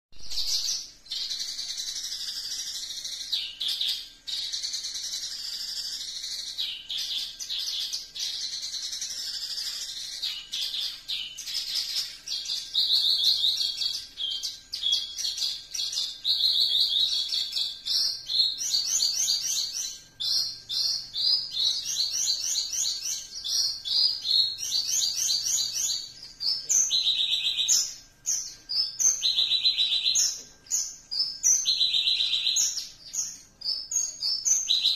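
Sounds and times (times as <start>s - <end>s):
lark singing: 0.2s - 34.9s.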